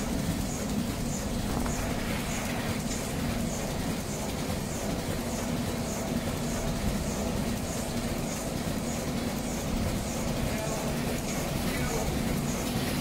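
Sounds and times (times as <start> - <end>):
packing machine humming: 0.0 - 13.0.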